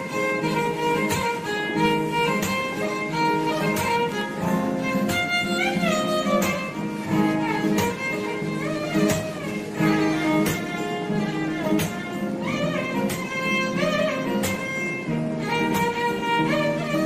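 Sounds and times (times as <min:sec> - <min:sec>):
instrumental tune over beat: 0:00.0 - 0:17.0.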